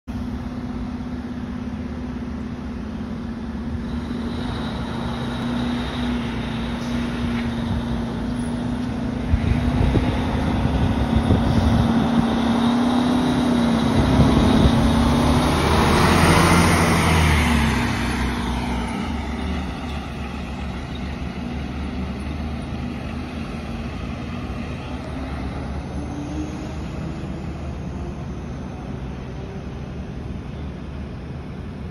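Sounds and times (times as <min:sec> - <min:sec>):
fire engine driving past: 0:00.1 - 0:31.9.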